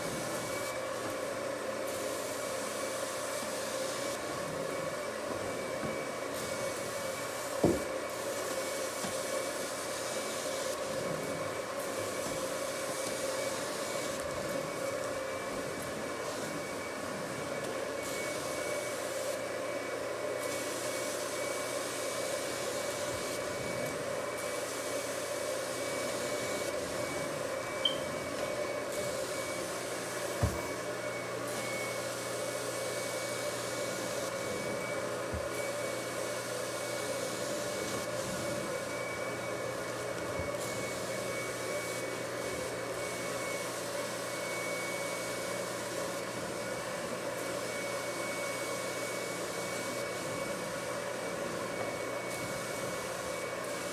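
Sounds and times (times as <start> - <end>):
carpet extraction vacuum drone: 0.0 - 53.9.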